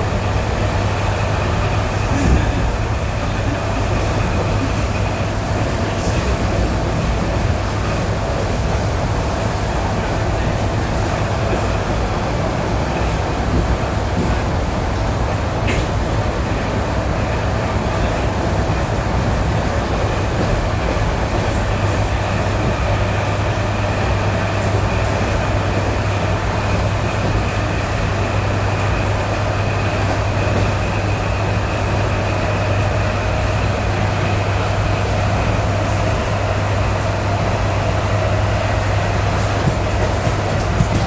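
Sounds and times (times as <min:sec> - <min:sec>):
train rolling noise: 0:00.0 - 0:41.0.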